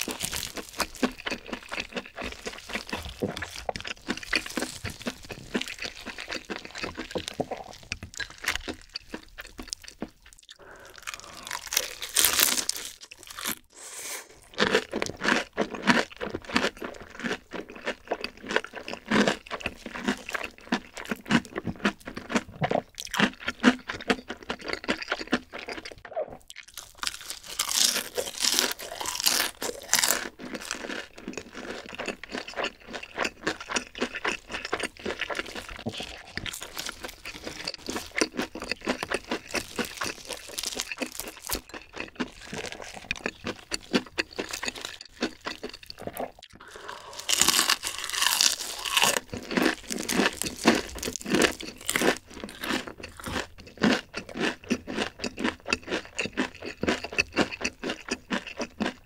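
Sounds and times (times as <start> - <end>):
crunching fried chicken: 0.0 - 13.7, 14.4 - 59.0.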